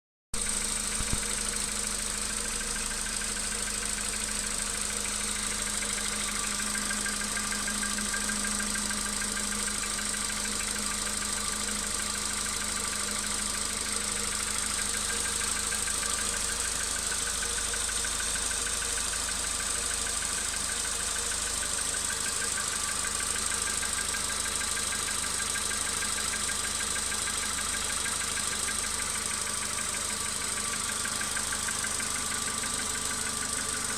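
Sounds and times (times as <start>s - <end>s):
car engine idling with a knock: 0.4s - 33.9s.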